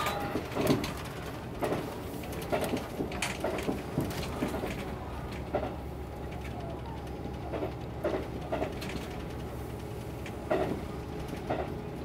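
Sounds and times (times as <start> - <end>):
railcar cabin rumble: 0.0 - 12.0.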